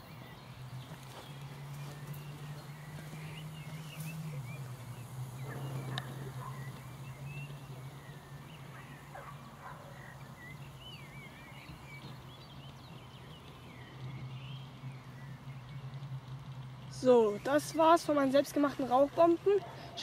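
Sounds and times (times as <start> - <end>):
birds warbling: 0.0 - 20.0
steady low hum: 0.0 - 20.0.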